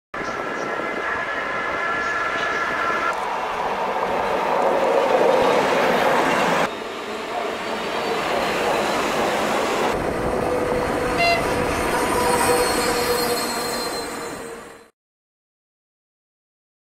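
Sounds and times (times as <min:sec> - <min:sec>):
freight train rumbling past: 0:00.2 - 0:14.9
high whine of locomotive: 0:00.2 - 0:14.9.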